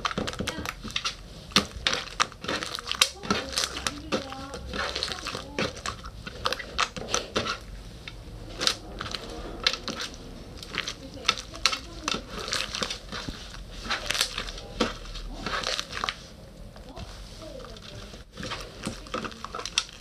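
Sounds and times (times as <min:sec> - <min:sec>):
hands squishing sticky slime: 0:00.0 - 0:20.0.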